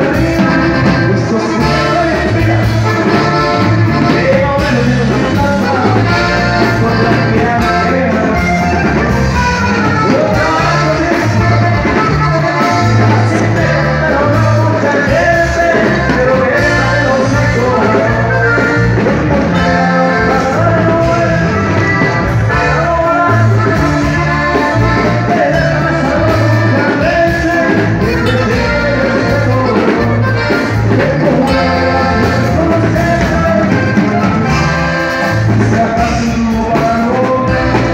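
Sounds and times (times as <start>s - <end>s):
drums: 0.0s - 37.9s
electric bass line: 0.0s - 37.9s
keyboard: 0.0s - 37.9s.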